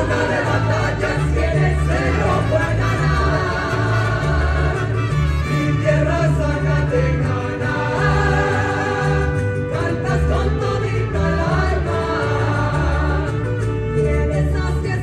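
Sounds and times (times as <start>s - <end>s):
voices singing together: 0.0s - 13.7s
low bass line: 0.0s - 15.0s
violins and guitars: 0.0s - 15.0s.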